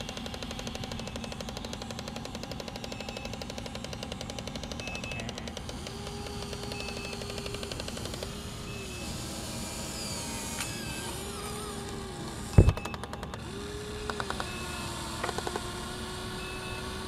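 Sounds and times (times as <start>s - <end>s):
fast mechanical gear clatter: 0.0s - 15.8s
small electric motors whining: 0.0s - 17.0s.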